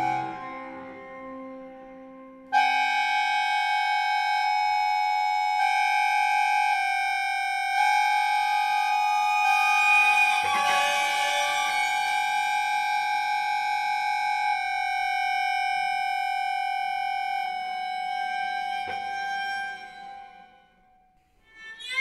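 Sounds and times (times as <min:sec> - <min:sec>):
accordion chord: 0:00.0 - 0:20.5.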